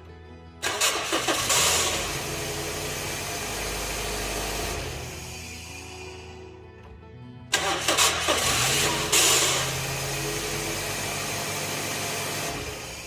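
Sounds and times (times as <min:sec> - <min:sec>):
starter motor cranking roughly: 0:00.6 - 0:05.9, 0:07.5 - 0:13.0
car engine revving and idling: 0:00.6 - 0:06.3, 0:07.5 - 0:13.0.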